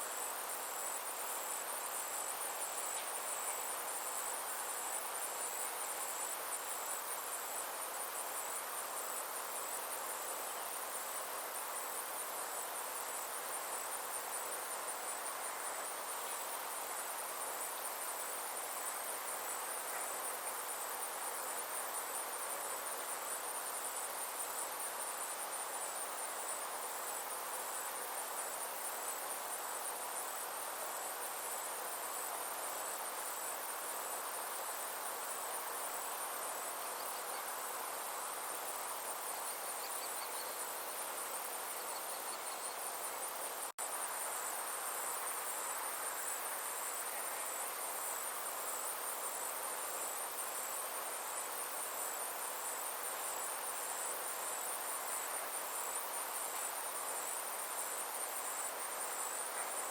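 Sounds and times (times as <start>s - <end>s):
insects chirring: 0.0s - 59.9s
soft background hiss: 0.0s - 59.9s.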